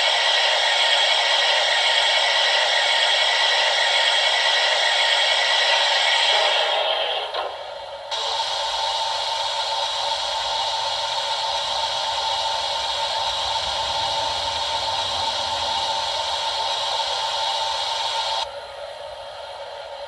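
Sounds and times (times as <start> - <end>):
steam hiss: 0.0 - 18.5.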